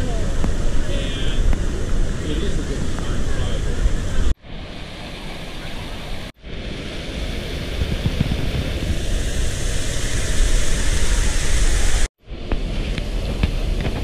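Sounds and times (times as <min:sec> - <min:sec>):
fountain water splashing: 0:00.0 - 0:12.1
wind buffeting microphone: 0:00.0 - 0:14.0.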